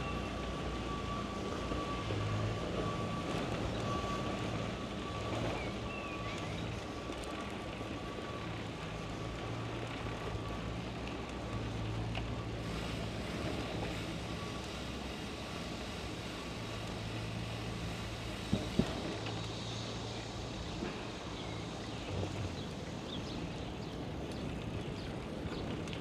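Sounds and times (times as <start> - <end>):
low hum with rushing noise: 1.8 - 26.0.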